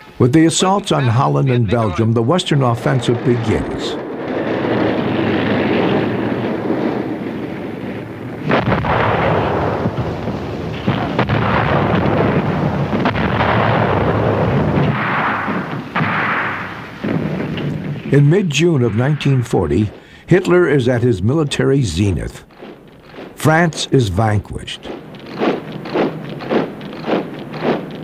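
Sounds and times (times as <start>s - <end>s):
sharp blasts: 0.0s - 28.0s
rumble of artillery and gunfire: 1.8s - 28.0s.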